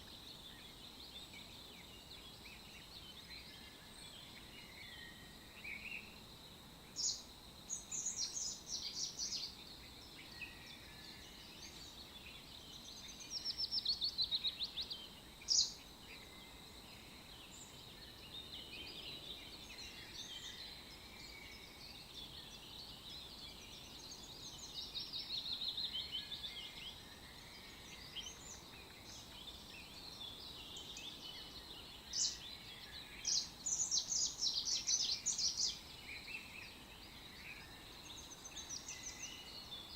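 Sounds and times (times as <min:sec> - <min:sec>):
faint steady hiss: 0:00.0 - 0:39.9
songbirds chirping and trilling: 0:00.0 - 0:39.9.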